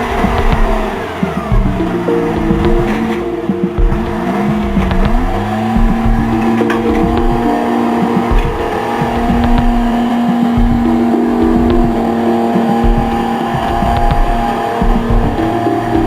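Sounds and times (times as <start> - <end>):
knocks and clunks: 0.0 - 16.0.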